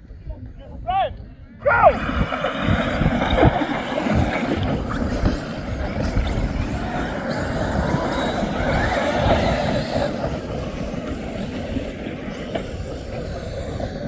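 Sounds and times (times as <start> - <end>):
rc car motors whining: 1.6 - 14.0.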